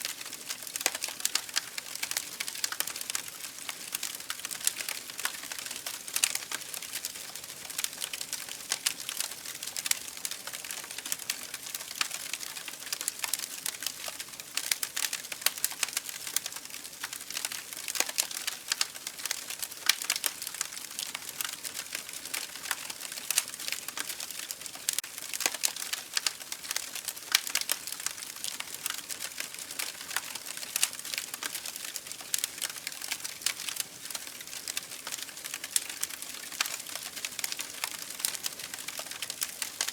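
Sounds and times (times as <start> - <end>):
wood crackling and popping: 0.0 - 39.9.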